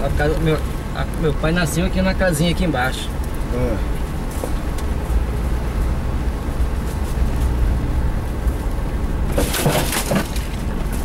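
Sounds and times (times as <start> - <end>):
crackling and rustling: 0.0 - 2.1, 2.8 - 11.0
vehicle driving on dirt track: 0.0 - 11.0.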